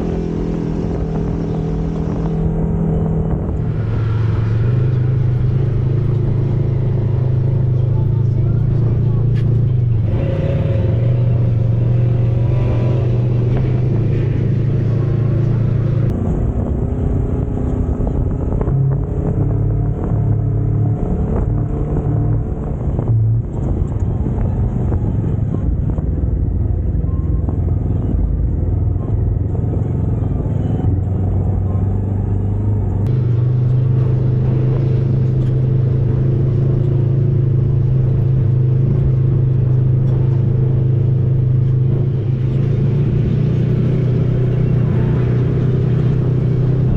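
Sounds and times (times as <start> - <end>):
utility vehicle engine droning: 0.0 - 46.9.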